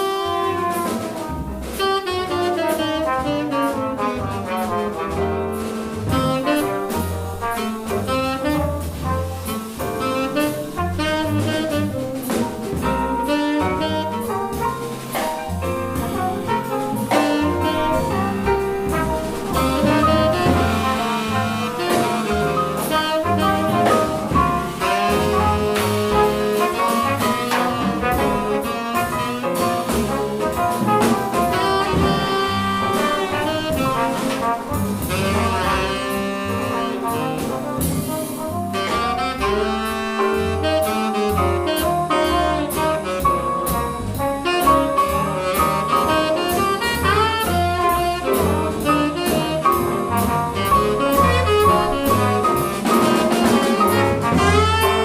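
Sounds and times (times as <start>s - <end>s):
saxophone: 0.0s - 1.2s, 1.8s - 5.4s, 6.2s - 43.6s, 44.4s - 55.0s
bass: 0.0s - 55.0s
bass trumpet: 0.0s - 55.0s
drums: 0.0s - 55.0s
piano: 0.0s - 55.0s.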